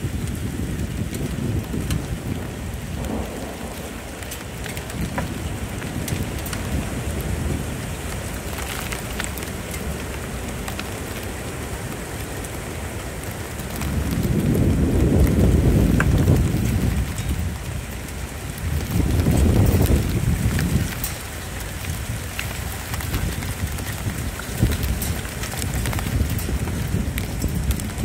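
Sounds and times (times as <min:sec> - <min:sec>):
low thunder rumbling: 0:00.0 - 0:11.4, 0:13.2 - 0:28.0
raindrops ticking: 0:00.0 - 0:28.0
steady rain: 0:00.0 - 0:28.0.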